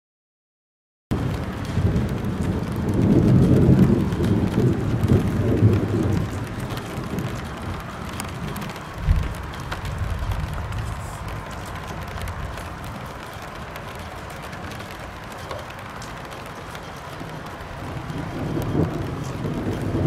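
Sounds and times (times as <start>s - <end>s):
rain hiss: 1.1s - 20.0s
rolling thunder: 1.1s - 20.0s.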